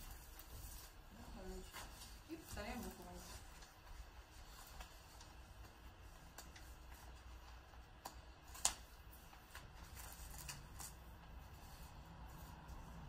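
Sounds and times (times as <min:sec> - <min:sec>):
paper handling: 0:00.0 - 0:13.0.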